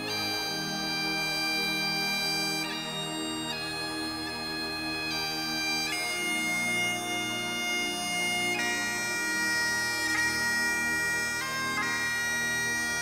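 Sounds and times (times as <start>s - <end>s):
bagpipe playing slow melody: 0.0s - 13.0s.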